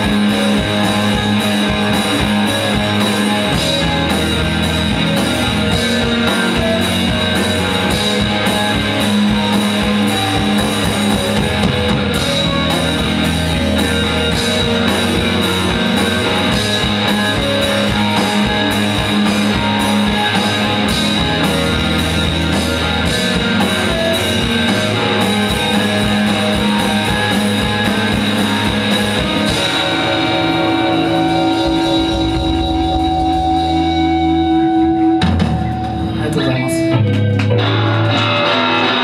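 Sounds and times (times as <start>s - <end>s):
drum kit: 0.0s - 39.0s
electric guitars: 0.0s - 39.0s.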